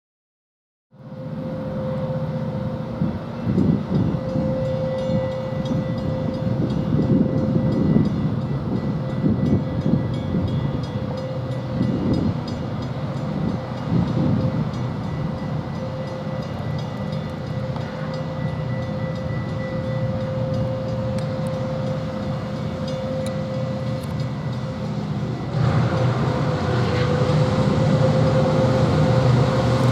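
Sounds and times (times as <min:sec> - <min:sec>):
diesel locomotive engines droning: 0:00.9 - 0:29.9
steady engine whine: 0:01.0 - 0:29.9.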